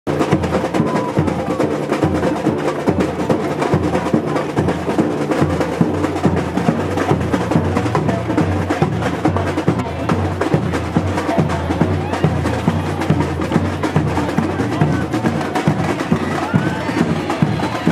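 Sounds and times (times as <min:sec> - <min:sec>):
driving drumming: 0:00.1 - 0:17.9
samba carnival music: 0:00.1 - 0:17.9.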